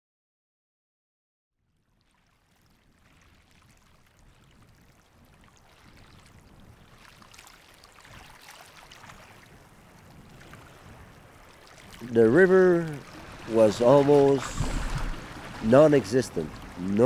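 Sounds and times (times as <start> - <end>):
river water flowing: 2.0 - 17.0.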